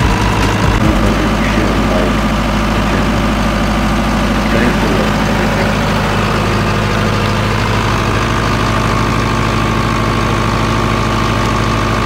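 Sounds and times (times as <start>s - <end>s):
diesel generator engine running: 0.0s - 12.0s.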